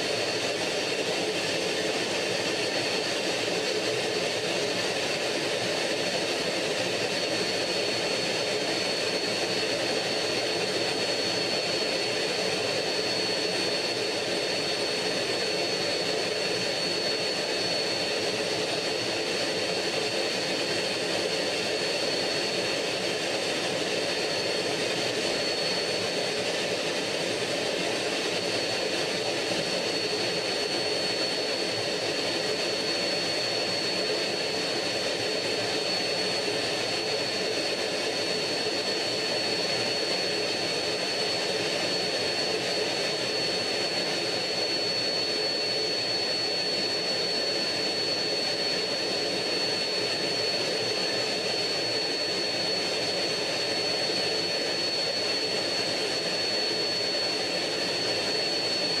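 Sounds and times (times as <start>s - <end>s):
constant high whine: 0.0s - 59.0s
jet engine noise: 0.0s - 59.0s.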